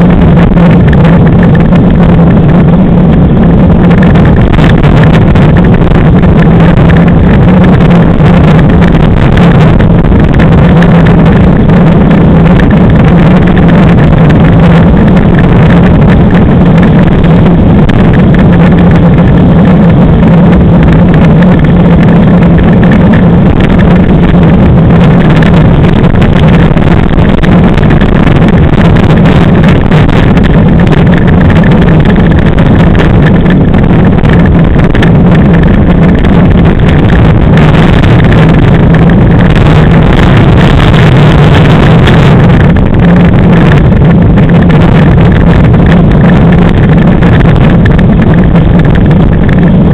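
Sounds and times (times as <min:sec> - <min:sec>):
low drone: 0:00.0 - 0:49.9
wheels rumbling over sand: 0:00.0 - 0:49.9.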